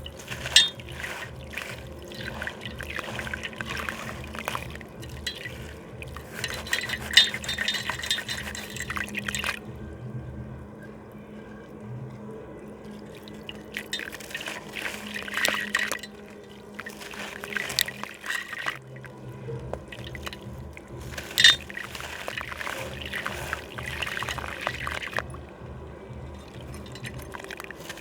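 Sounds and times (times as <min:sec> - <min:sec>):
slab fizzing and crackling in water: 0:00.0 - 0:09.8, 0:12.7 - 0:28.0.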